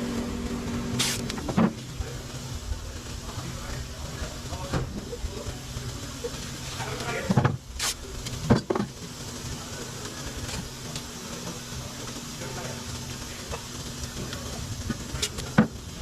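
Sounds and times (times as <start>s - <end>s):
even hiss: 0.0s - 16.0s
machine hum: 0.0s - 16.0s.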